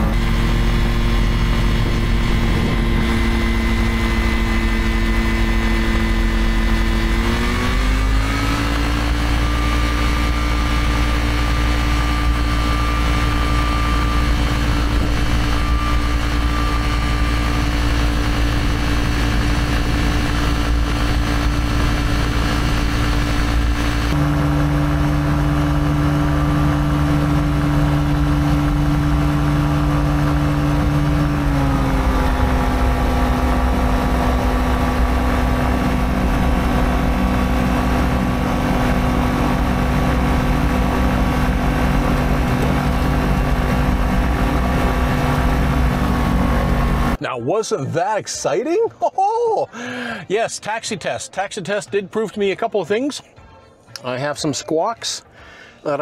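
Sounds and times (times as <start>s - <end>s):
two-stroke engine and propeller running: 0.0s - 47.2s.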